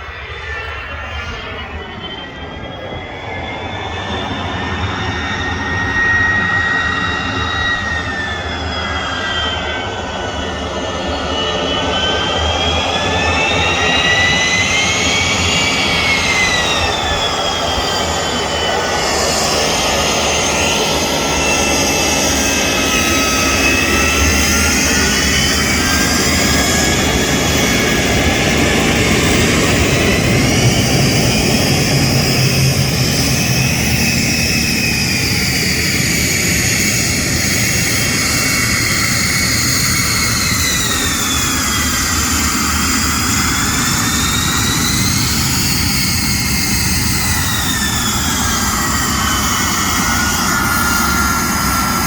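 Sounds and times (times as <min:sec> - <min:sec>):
turbine airplane engine roaring: 0:00.0 - 0:52.0.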